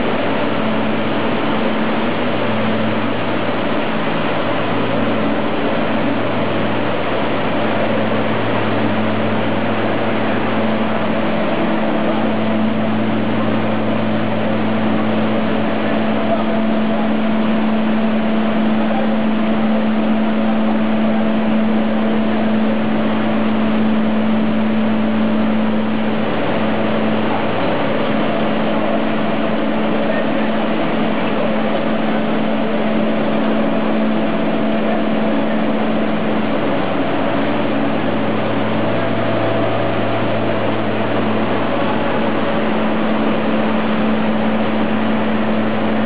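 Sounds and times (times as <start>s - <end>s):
low motor hum: 0.0s - 46.0s
milling machines whirring: 0.0s - 46.0s.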